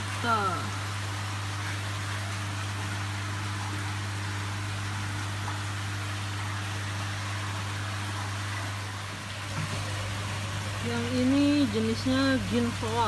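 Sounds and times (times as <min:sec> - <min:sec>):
low electric hum: 0:00.0 - 0:13.0.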